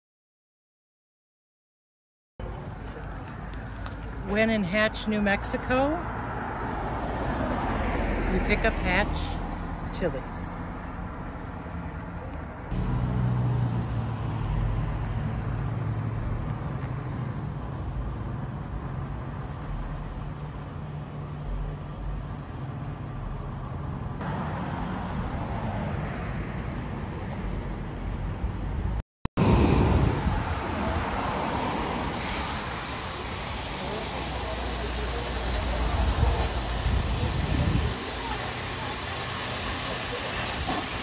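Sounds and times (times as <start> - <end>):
traffic rumble: 2.4 - 41.0.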